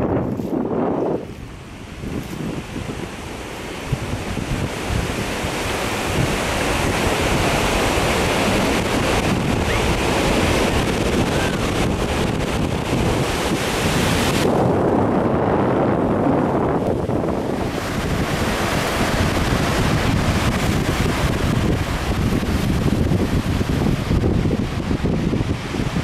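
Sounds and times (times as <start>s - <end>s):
surf breaking on beach: 0.0s - 26.0s
wind buffeting microphone: 0.0s - 26.0s.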